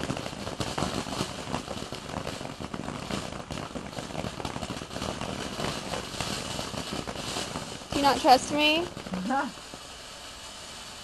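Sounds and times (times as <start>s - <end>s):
small irregular crackles: 0.0s - 10.9s
firework hissing: 0.0s - 11.0s.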